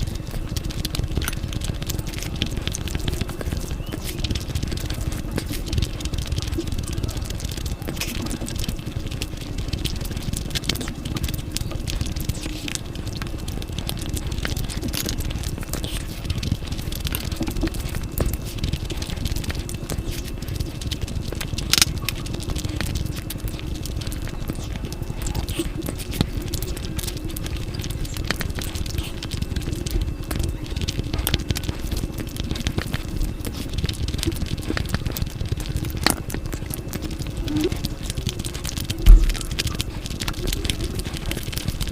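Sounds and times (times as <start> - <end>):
chewing mouth noises: 0.0 - 41.9
dull low rumble: 0.0 - 41.9
small sharp clicks and crackles: 0.0 - 41.9.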